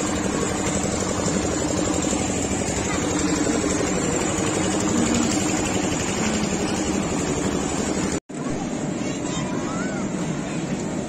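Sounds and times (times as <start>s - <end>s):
fairground motor drone: 0.0s - 11.0s.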